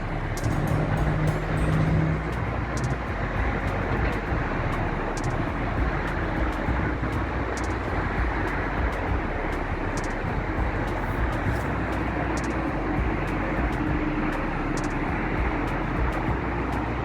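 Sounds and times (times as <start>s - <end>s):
passing engine hum: 0.0s - 17.0s
road traffic hiss: 0.0s - 17.0s.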